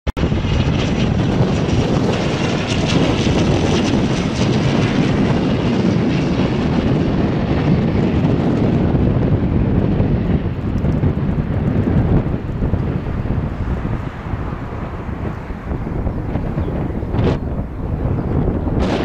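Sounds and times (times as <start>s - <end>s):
airliner landing rushing noise: 0.1s - 19.0s.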